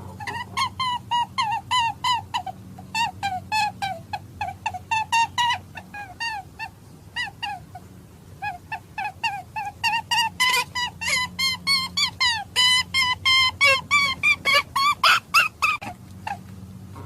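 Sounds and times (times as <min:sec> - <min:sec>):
rabbit call squeaks: 0:00.0 - 0:17.0
steady low hum: 0:00.0 - 0:17.0.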